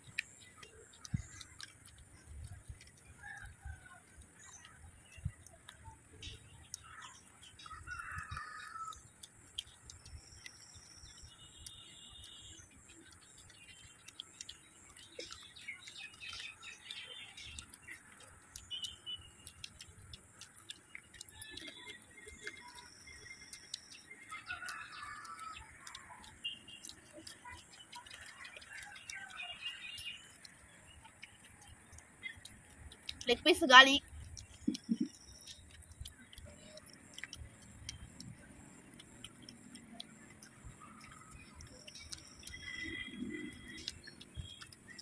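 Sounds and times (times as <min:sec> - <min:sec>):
birds chirping: 0:00.0 - 0:45.0
people chewing food: 0:00.0 - 0:45.0.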